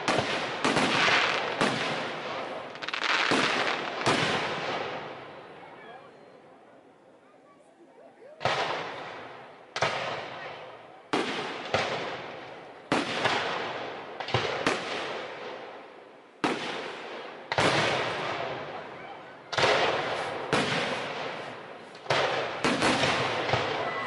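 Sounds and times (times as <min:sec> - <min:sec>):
firework shells booming: 0:00.0 - 0:05.4, 0:08.4 - 0:24.0.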